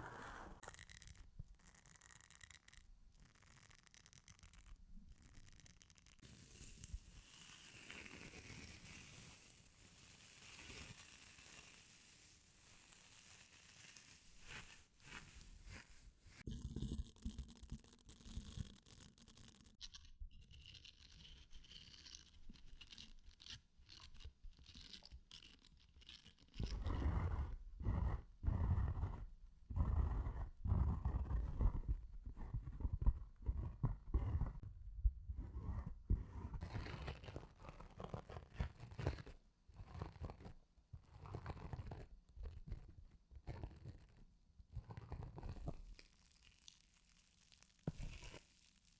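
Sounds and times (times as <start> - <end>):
scratching and rubbing on surface: 0.0 - 34.7, 35.4 - 48.9.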